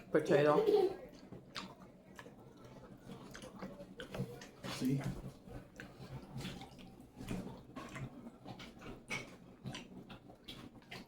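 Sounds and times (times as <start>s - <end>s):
person chewing: 1.1s - 11.0s.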